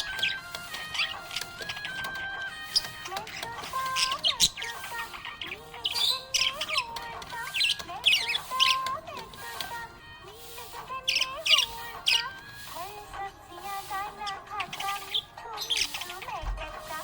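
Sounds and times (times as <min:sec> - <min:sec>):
budgerigar chirping: 0:00.0 - 0:13.1, 0:13.8 - 0:17.0
background music: 0:00.0 - 0:17.0.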